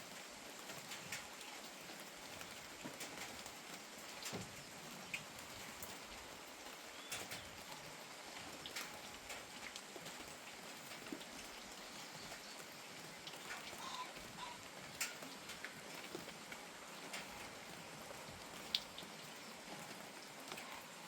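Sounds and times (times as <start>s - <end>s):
light rain hiss: 0.0s - 21.0s
raindrops tapping on surface: 0.0s - 21.0s.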